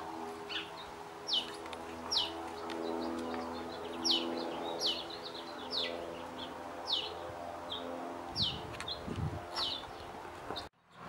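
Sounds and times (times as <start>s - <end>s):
steady low hum: 0.0s - 10.7s
bird chirping: 0.4s - 11.0s.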